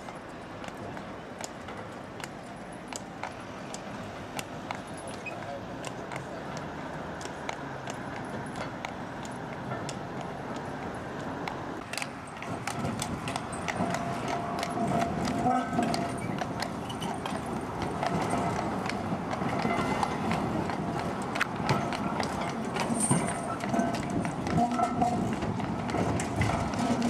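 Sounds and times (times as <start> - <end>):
horse hooves clip-clopping on road: 0.0 - 27.0
street noise: 0.0 - 27.0.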